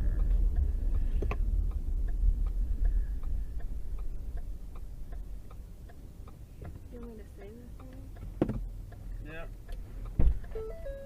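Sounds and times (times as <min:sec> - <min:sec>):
road and engine rumble: 0:00.0 - 0:11.0
turn signal relay clicking: 0:00.2 - 0:11.0.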